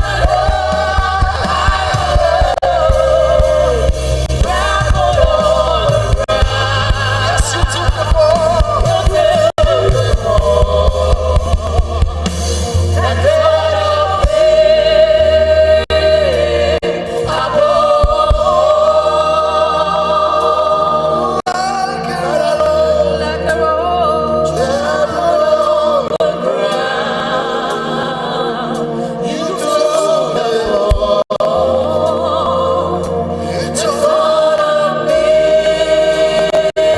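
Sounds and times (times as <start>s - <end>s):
bass and keyboard: 0.0s - 36.9s
choir singing: 0.0s - 36.9s.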